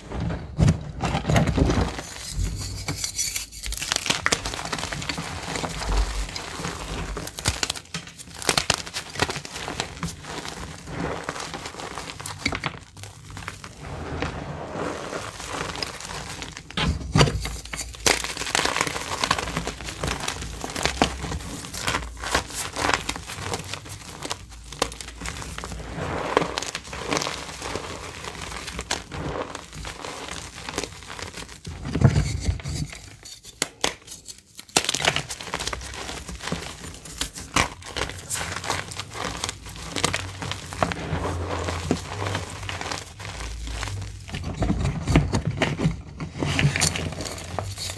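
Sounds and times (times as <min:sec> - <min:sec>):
chalk crunching and crumbling: 0:01.2 - 0:47.9.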